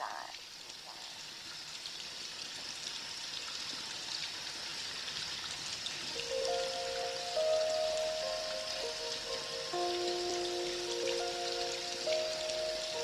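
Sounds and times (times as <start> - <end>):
faint scattered raindrops: 0.0 - 13.0
steady rainfall hiss: 0.0 - 13.0.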